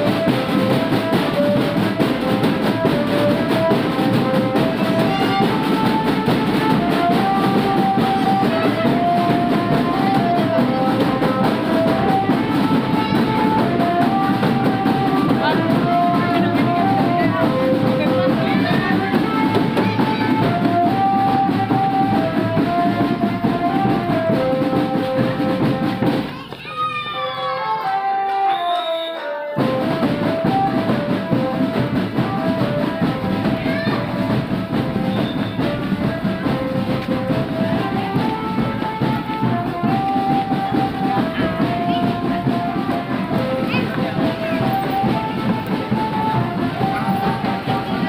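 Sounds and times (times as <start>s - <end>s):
horn melody: 0.0s - 26.2s, 26.9s - 48.0s
marching drums: 0.0s - 26.7s, 28.5s - 48.0s.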